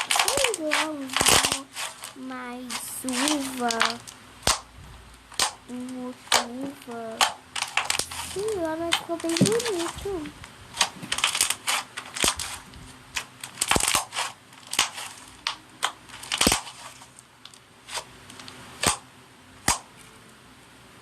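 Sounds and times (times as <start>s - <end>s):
faint slime crackling: 0.0s - 19.0s.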